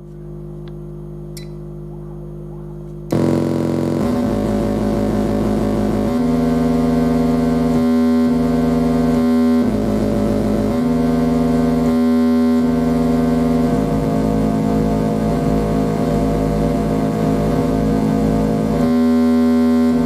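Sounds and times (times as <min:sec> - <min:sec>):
buzzy electronic tones: 0:01.4 - 0:20.0.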